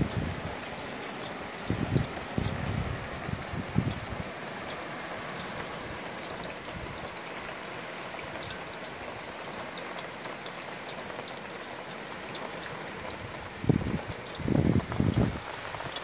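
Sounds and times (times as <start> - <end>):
light rain hiss: 0.0 - 16.0
raindrops ticking on surfaces: 0.0 - 16.0.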